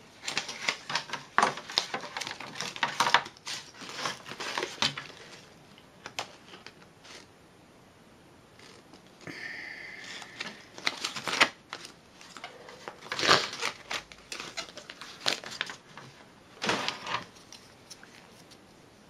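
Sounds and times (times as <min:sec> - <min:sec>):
plastic packaging handled: 0:00.0 - 0:07.3, 0:10.0 - 0:18.6.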